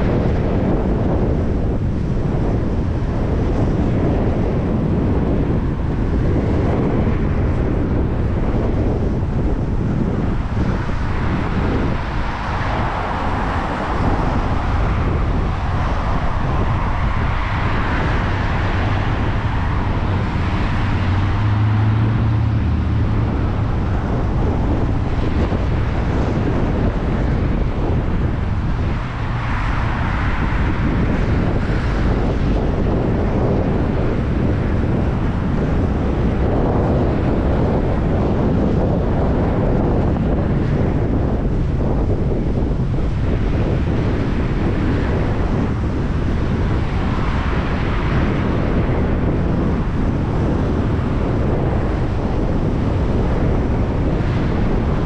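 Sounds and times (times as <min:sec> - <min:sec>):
road traffic passing: 0:00.0 - 0:55.0
vehicle engine hum: 0:00.0 - 0:55.0
wind buffeting microphone: 0:00.0 - 0:55.0.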